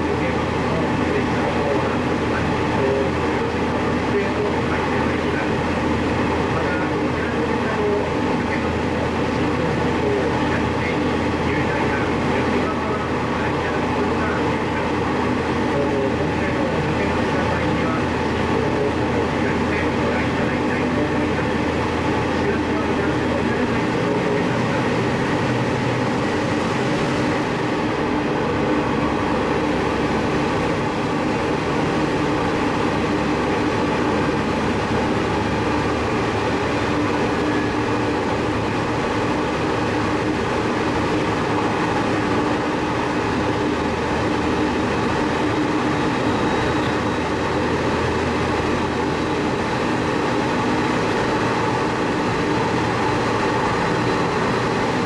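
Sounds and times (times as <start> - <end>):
diesel railcar engine drone: 0.0 - 55.0.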